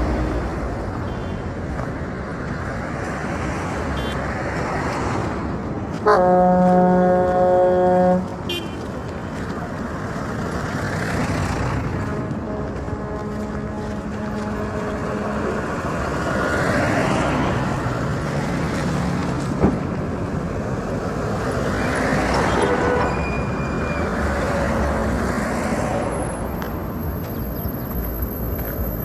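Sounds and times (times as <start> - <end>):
rumble of road traffic: 0.0 - 29.0
vehicles passing close by: 0.0 - 29.0.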